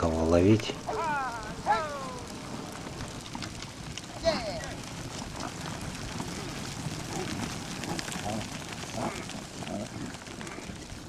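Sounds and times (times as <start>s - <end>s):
hooves crackling: 0.0s - 11.0s.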